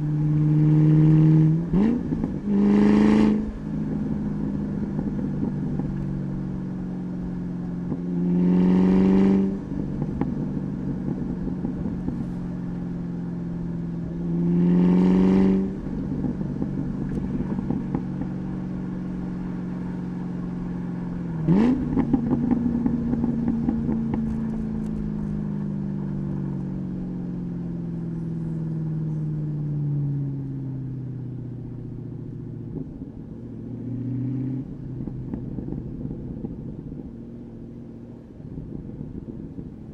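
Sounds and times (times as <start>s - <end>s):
car engine revving: 0.0s - 39.8s
falling engine drone: 0.0s - 39.9s.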